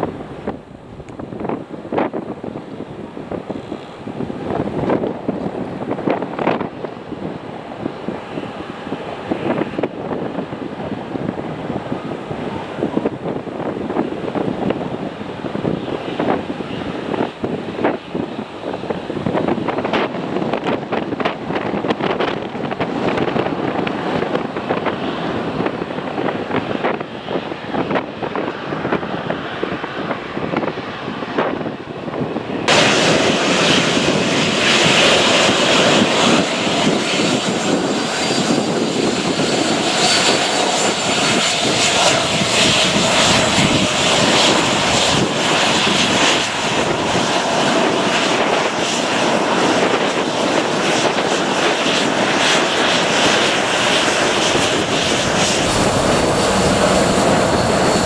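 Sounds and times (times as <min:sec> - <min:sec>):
airliner engines roaring: 0:00.0 - 0:58.0
wind buffeting microphone: 0:00.0 - 0:58.0.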